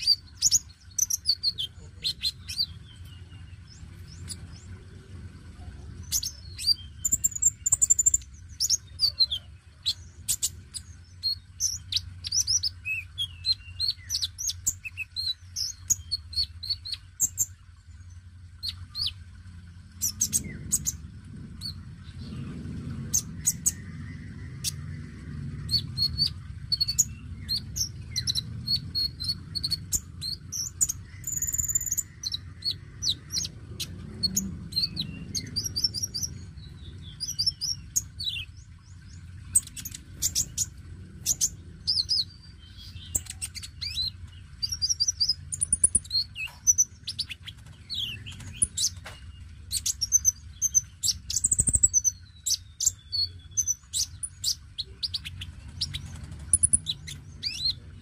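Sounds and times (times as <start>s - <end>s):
low rumble: 0.0s - 58.0s
sunbird twittering song: 0.0s - 58.0s.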